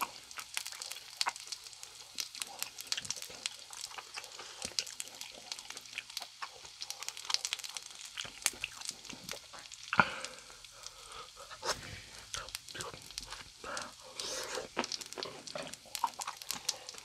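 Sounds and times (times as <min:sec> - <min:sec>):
chicken skewers sizzling: 0:00.0 - 0:17.0.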